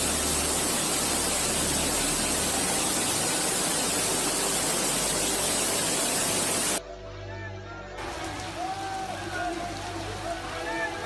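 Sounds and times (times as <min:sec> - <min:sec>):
floodwater rushing: 0:00.0 - 0:06.8, 0:08.0 - 0:11.0.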